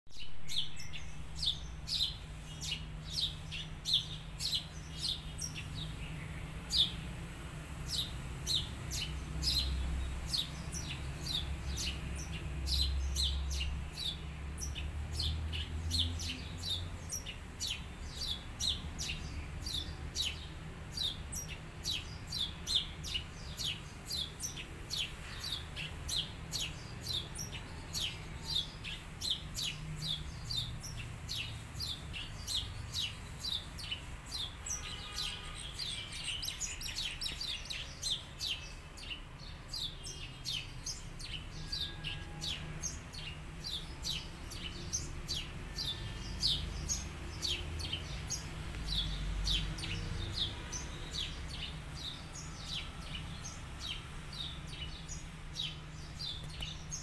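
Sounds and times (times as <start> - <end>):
small birds chirping: 0.1 - 57.0.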